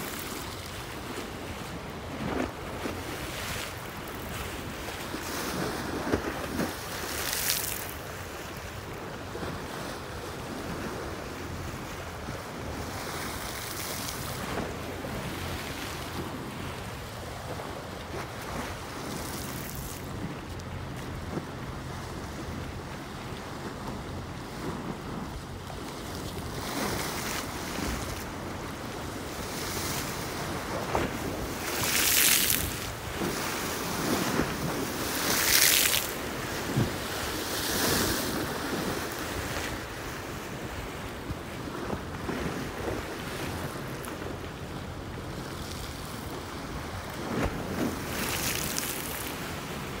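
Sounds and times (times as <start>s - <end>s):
waves splashing: 0.0s - 50.0s
waves washing against seawall: 0.0s - 50.0s
wind buffeting microphone: 0.0s - 50.0s.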